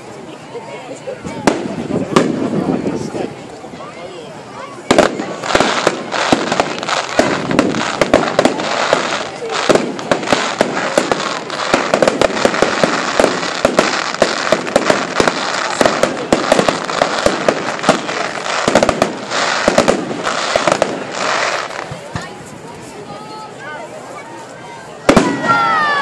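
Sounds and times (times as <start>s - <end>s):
fireworks bangs and crackling: 0.0s - 3.6s, 4.6s - 24.0s, 24.9s - 26.0s.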